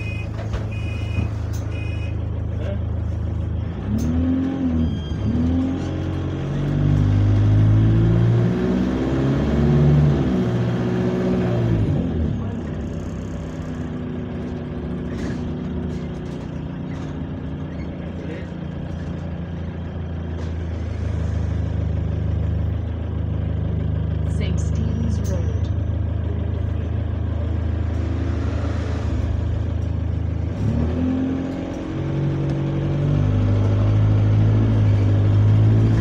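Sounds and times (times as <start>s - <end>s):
bus engine accelerating: 0.0s - 36.0s.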